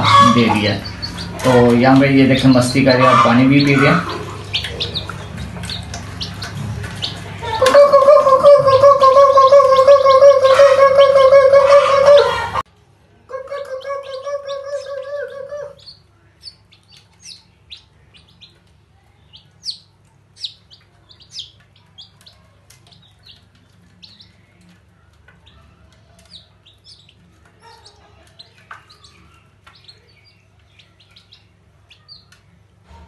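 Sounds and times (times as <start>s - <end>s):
baby chicks peeping: 0.0s - 12.7s, 13.3s - 33.0s.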